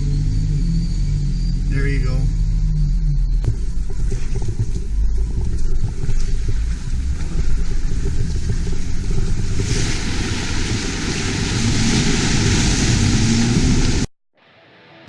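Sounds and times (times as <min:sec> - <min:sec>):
off-road vehicle engine rumble: 0:00.0 - 0:14.1.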